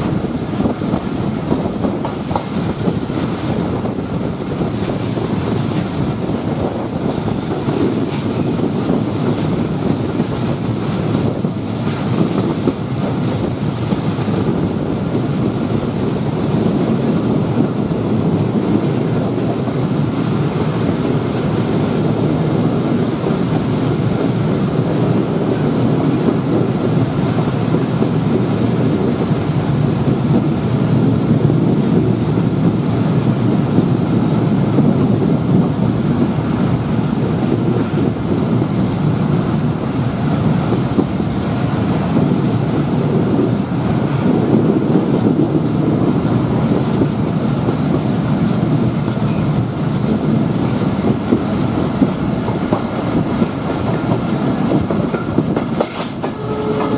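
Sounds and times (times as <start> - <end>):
train wheels rumbling on track: 0.0 - 56.9
wind on microphone: 0.0 - 56.9.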